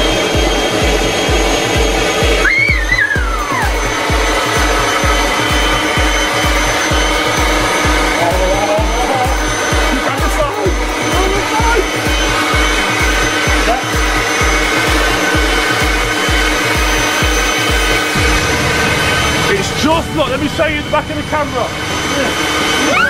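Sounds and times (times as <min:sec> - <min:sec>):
background music with beat: 0:00.0 - 0:23.0
leaf blower running: 0:00.0 - 0:23.0.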